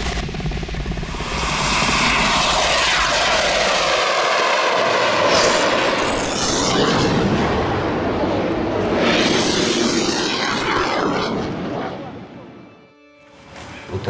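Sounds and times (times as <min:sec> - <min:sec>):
jet aircraft roar: 0:00.0 - 0:14.0.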